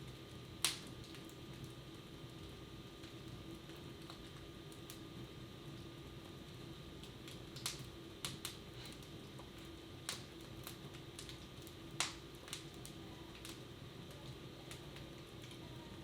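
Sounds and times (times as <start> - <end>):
low background hum: 0.0 - 16.0
wood fire crackling and popping: 0.0 - 16.0.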